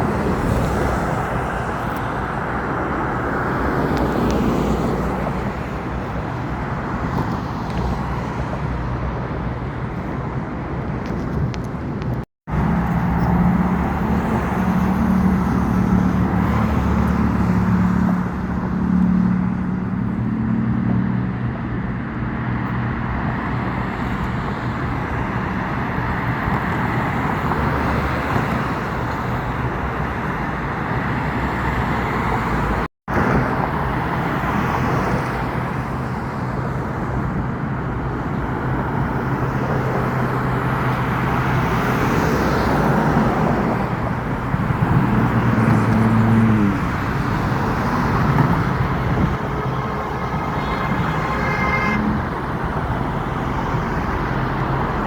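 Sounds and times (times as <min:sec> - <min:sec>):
road traffic engine hum: 0:00.0 - 0:55.0.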